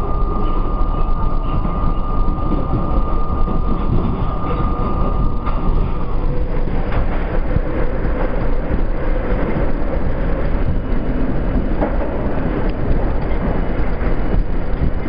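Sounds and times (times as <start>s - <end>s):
steady hum: 0.0s - 15.0s
subway wheels rumbling on rails: 0.0s - 15.0s.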